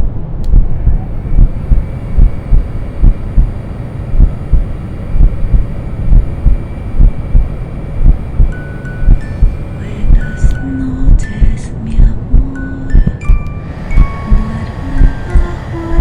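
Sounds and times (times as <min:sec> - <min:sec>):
muffled rumbling whoosh: 0:00.4 - 0:12.5, 0:13.6 - 0:16.0
heartbeat thumps: 0:00.5 - 0:16.0.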